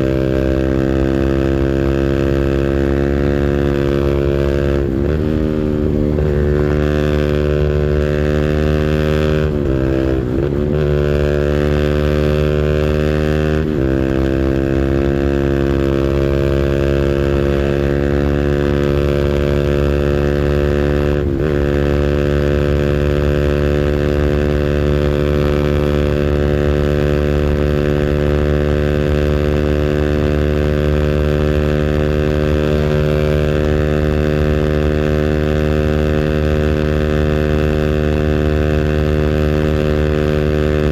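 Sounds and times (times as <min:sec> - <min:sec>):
small engine at high revs: 0:00.0 - 0:40.9.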